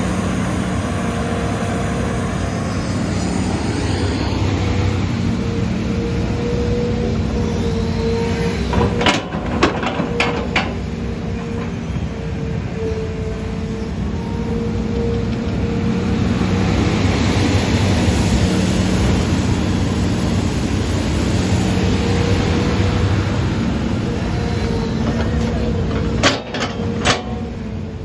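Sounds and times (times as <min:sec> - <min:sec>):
excavator engine running: 0:00.0 - 0:28.0.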